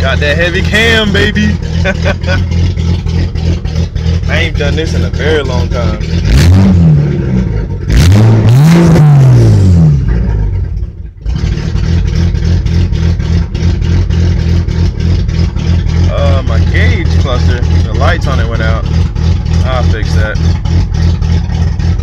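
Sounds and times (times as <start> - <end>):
rough engine idle: 0.0 - 6.3, 10.0 - 22.0
car engine revving: 0.0 - 22.0.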